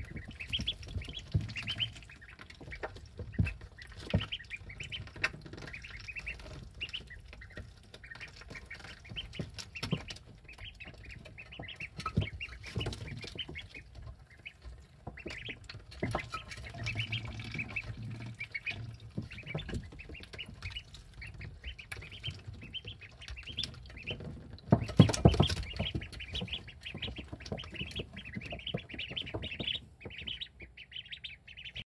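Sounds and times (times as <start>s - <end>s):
ducklings peeping: 0.0s - 31.8s.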